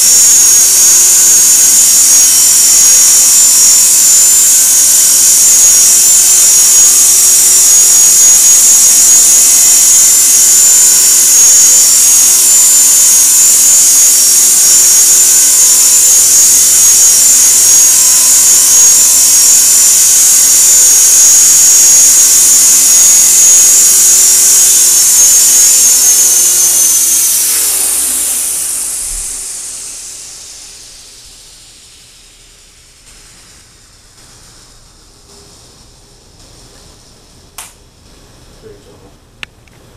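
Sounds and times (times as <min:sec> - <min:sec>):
rc helicopter motor whine: 0:00.0 - 0:33.7
rotor spooling down: 0:00.0 - 0:36.6.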